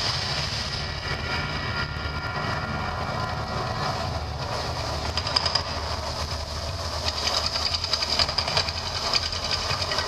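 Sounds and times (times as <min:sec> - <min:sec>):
deep rumble: 0:00.0 - 0:10.0.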